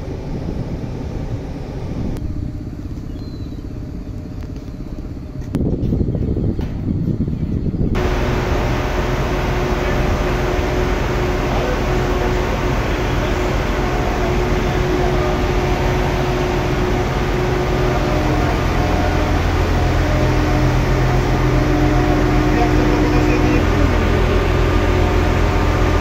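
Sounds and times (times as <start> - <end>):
railway machinery humming: 0.0 - 26.0.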